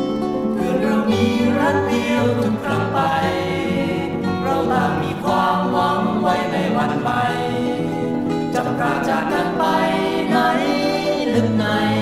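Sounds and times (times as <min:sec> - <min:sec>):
guitar accompaniment: 0:00.0 - 0:12.0
voices singing: 0:00.4 - 0:12.0.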